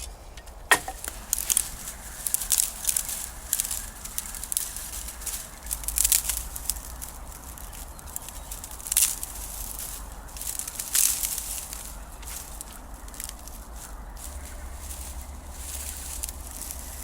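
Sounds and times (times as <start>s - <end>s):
twigs crackling in campfire: 0.0s - 17.0s.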